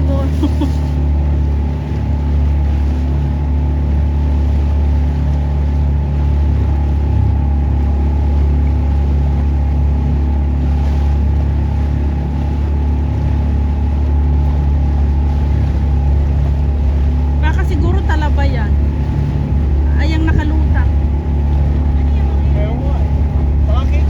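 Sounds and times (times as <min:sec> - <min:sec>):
motorboat engine humming: 0:00.0 - 0:24.0.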